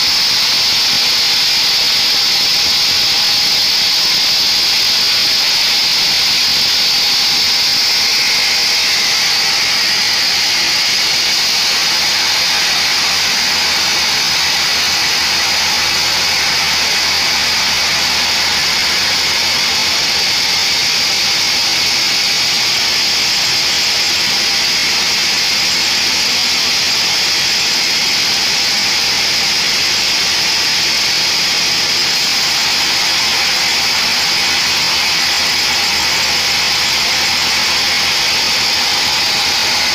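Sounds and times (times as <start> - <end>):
band saw blade whining in wood: 0.0 - 39.9
machine hum: 2.0 - 39.9.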